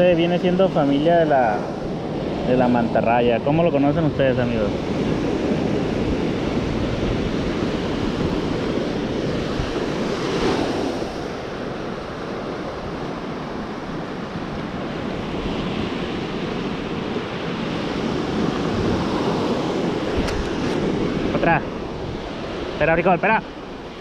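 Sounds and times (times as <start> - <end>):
ocean surf on beach: 0.0 - 24.0
wind on microphone: 0.0 - 24.0.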